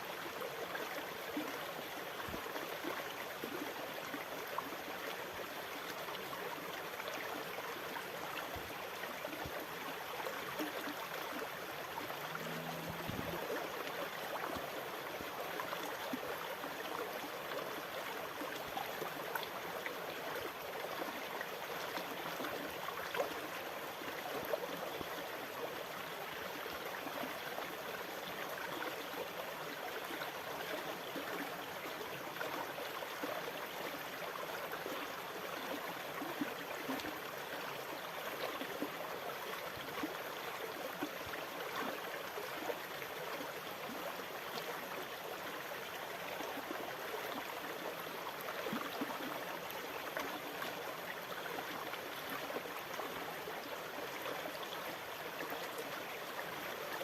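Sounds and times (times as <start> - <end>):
rush of moving water: 0.0 - 57.0.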